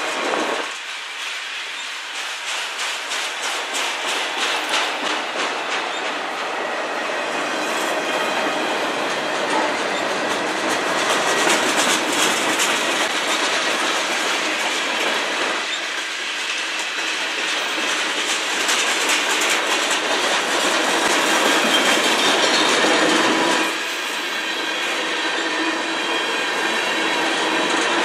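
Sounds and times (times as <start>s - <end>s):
steel wheels rushing on rail: 0.0s - 28.0s
wheels clacking over rail joints: 0.0s - 28.0s.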